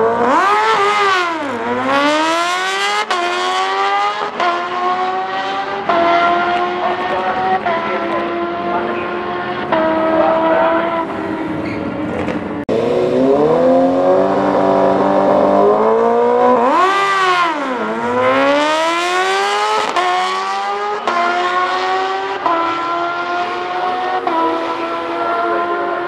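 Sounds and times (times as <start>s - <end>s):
motorcycle accelerating through upshifts: 0.0s - 26.0s
motorcycle engine drone: 0.0s - 26.0s
motorcycle engine revving: 0.0s - 26.0s.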